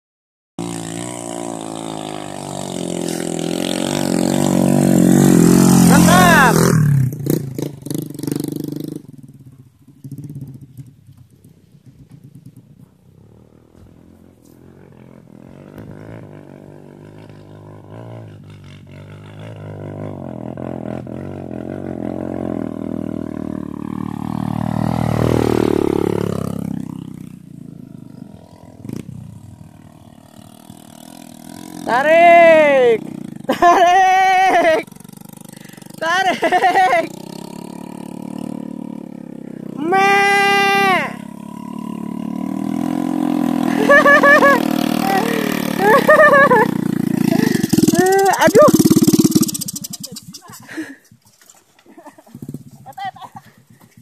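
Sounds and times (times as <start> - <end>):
dirt bike engine under throttle: 0.6 - 54.0.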